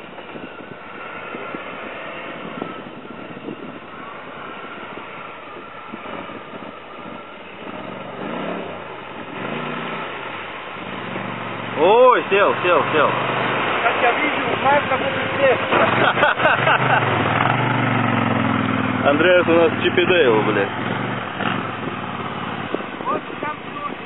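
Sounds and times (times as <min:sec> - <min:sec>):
engine revving in surges: 0:00.0 - 0:23.3
off-road vehicle engines running: 0:00.0 - 0:24.0.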